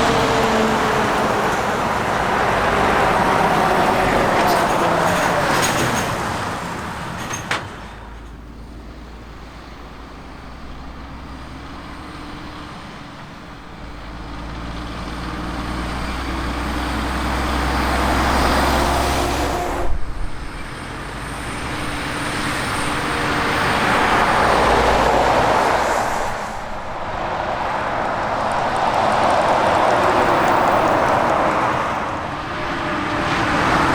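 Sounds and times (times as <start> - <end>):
heavy trucks driving past: 0.0 - 33.9.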